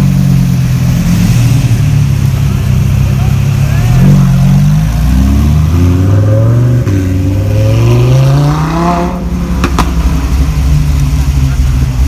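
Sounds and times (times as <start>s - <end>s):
car engine accelerating: 0.0s - 12.0s
exhaust crackles: 0.0s - 12.0s.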